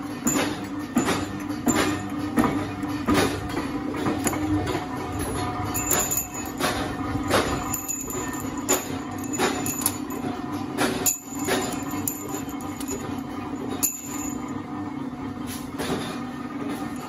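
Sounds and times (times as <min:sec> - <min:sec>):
sharp metallic clanks: 0:00.0 - 0:14.5
punch press humming: 0:00.0 - 0:17.0.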